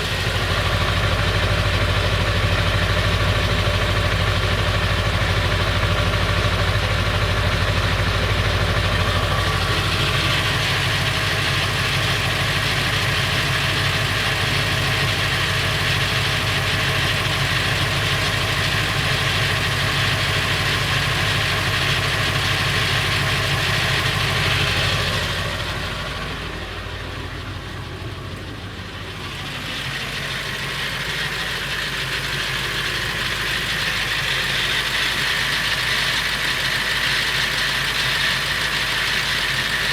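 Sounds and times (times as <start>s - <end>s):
diesel engine idling: 0.0s - 39.9s
engine rattle: 0.0s - 39.9s.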